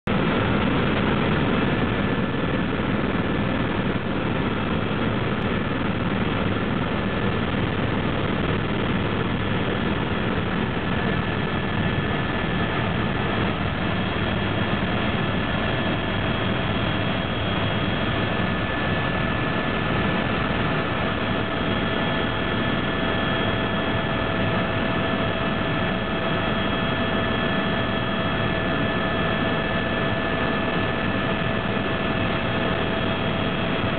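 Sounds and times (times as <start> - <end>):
helicopter turbine and rotor drone: 0.1 - 33.9
high whine: 0.1 - 33.9.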